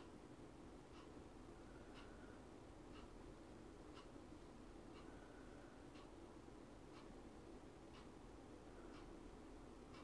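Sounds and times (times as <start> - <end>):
soft ticking: 0.0 - 10.0.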